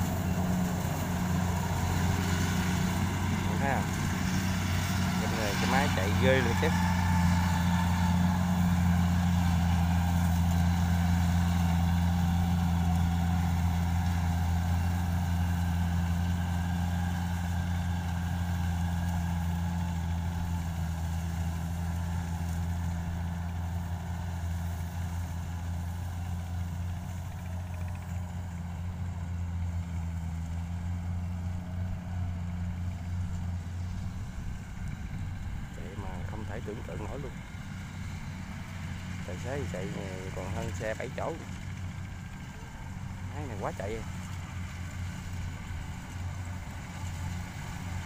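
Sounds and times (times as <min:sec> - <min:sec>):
combine harvester diesel engine: 0:00.0 - 0:48.0.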